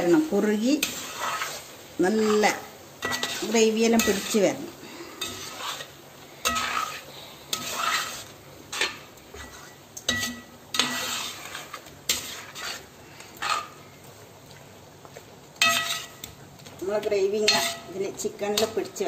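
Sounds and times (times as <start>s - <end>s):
gravy simmering: 0.0s - 19.0s
metal ladle scraping pan: 0.7s - 13.8s, 15.6s - 16.3s, 17.4s - 19.0s.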